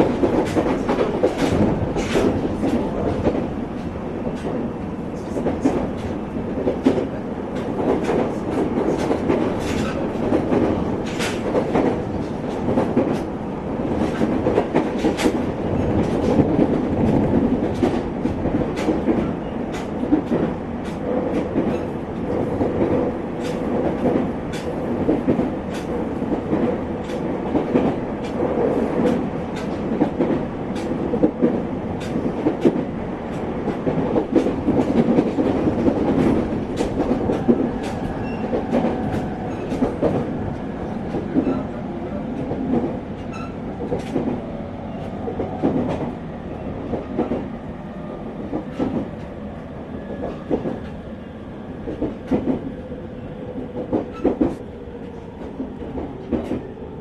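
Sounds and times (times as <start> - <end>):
train running gear rumble: 0.0 - 57.0.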